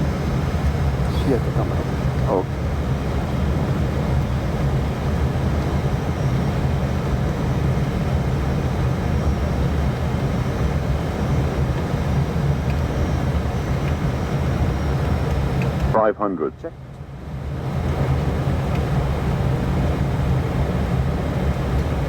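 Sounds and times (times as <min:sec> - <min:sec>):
airliner cockpit rumble: 0:00.0 - 0:22.0.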